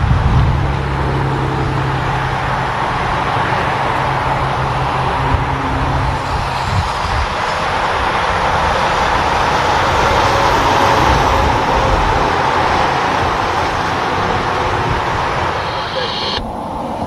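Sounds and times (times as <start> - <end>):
truck passing by: 0.0 - 17.0.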